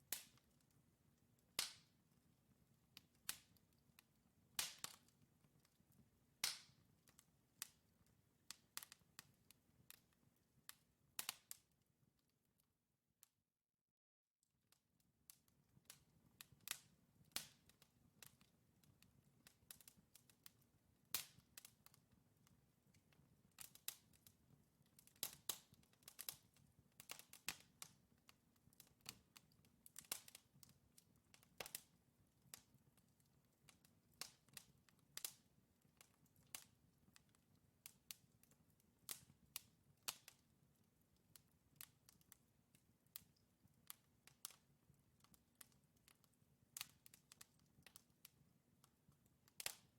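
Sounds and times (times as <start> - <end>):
logs crackling and popping: 3.0 - 11.6, 15.5 - 48.4, 49.0 - 49.9.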